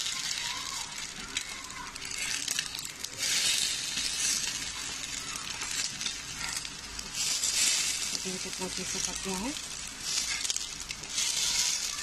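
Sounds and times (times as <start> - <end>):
bread sizzling in a frying pan: 0.0 - 12.0.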